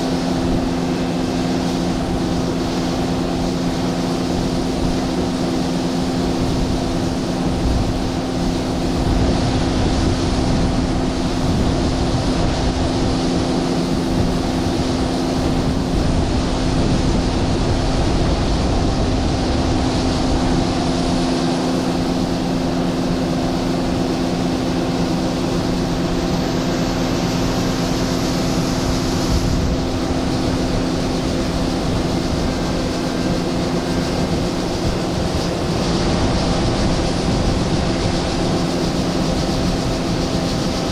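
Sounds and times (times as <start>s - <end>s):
combine harvester engine humming: 0.0s - 40.9s
rushing noise: 0.0s - 40.9s.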